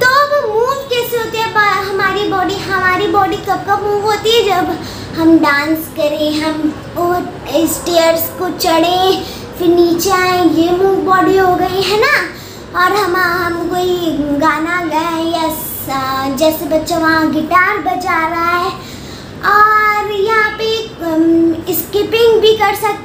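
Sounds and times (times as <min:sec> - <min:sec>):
girl singing: 0:00.0 - 0:23.0.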